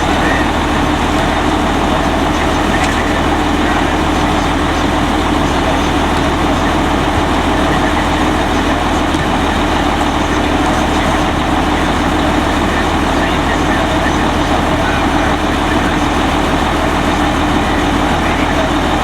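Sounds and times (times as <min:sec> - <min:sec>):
garbage truck engine idling: 0:00.0 - 0:19.0.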